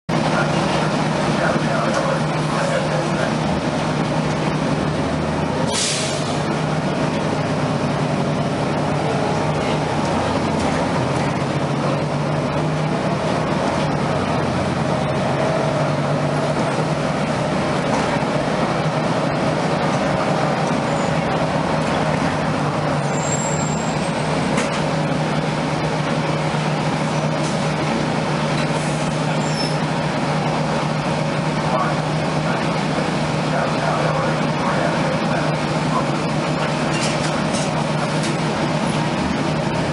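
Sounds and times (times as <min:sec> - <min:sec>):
bus engine running: 0:00.1 - 0:39.9.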